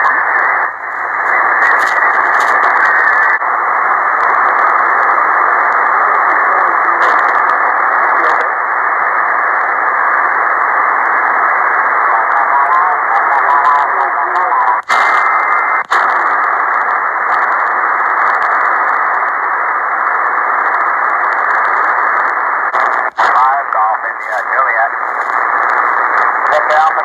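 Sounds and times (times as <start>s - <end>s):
radio band noise hiss: 0.0s - 27.0s.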